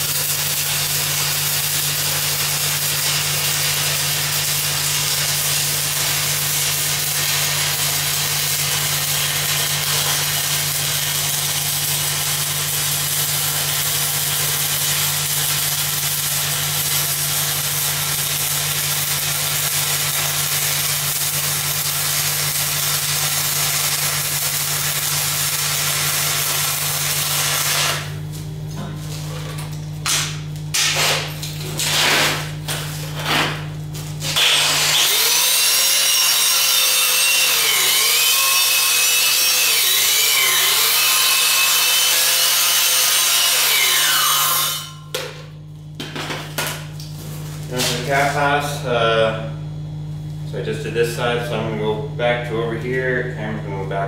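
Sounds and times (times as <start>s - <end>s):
welding arc crackling and hissing: 0.0s - 44.9s, 46.4s - 48.9s.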